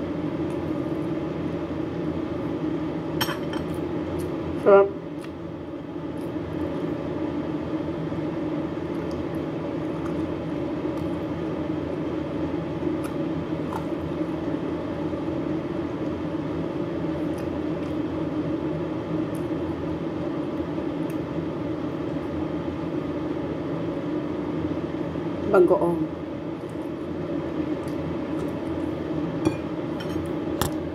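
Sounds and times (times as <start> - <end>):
steady mechanical hum: 0.0 - 30.9.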